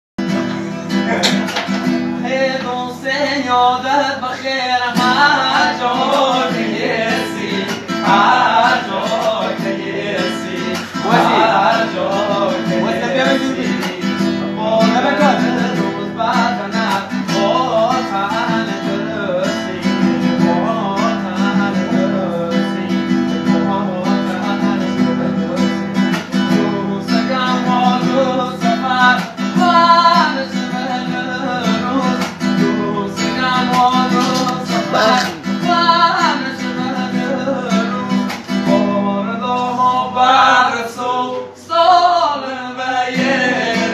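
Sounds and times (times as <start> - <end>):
acoustic guitar strumming: 0.2 - 43.9
man singing: 0.2 - 43.9.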